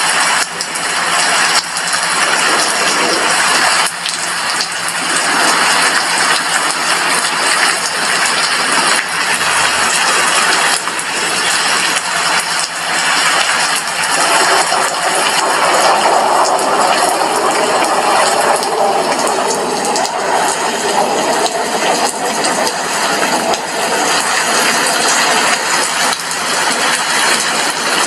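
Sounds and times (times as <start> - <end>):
heavy rain on a window: 0.0 - 28.0.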